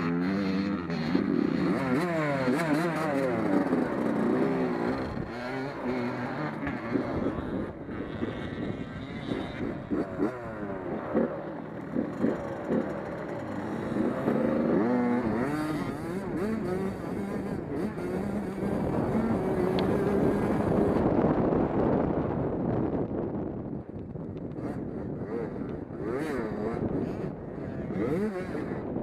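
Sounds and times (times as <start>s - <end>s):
race car engines revving: 0.0s - 22.9s, 24.3s - 29.0s.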